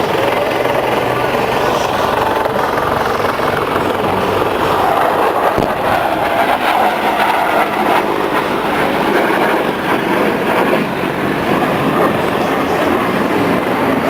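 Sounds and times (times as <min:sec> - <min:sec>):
military aircraft rushing noise: 0:00.0 - 0:14.0.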